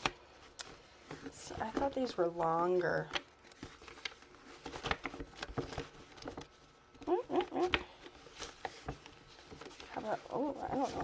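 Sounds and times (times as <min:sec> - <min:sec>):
paper scraps rustling: 0:00.0 - 0:06.9, 0:08.0 - 0:11.0.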